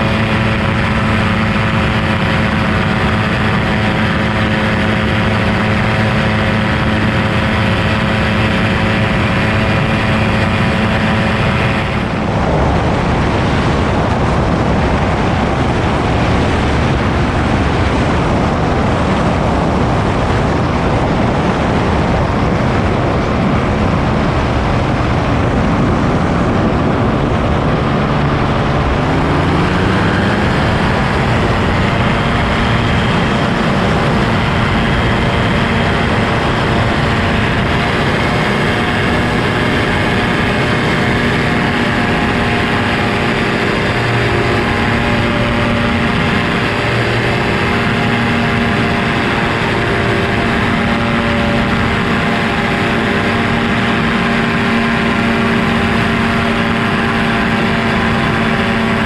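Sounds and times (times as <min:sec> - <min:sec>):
heavy wind noise: 0:00.0 - 0:59.0
light aircraft engine and propeller: 0:00.0 - 0:59.0.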